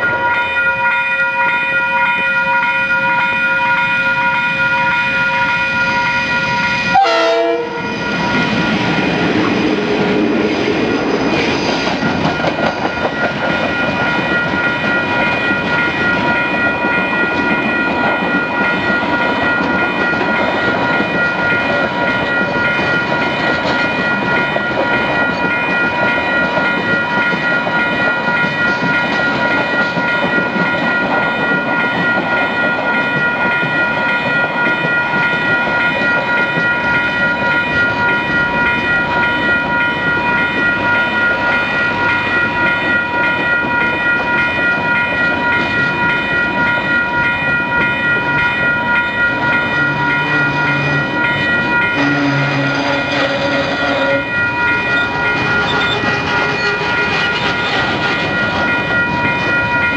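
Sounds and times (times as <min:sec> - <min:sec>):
steady high ringing tone: 0:00.0 - 0:09.5, 0:11.9 - 0:59.9
train rolling on rails: 0:00.0 - 0:59.9.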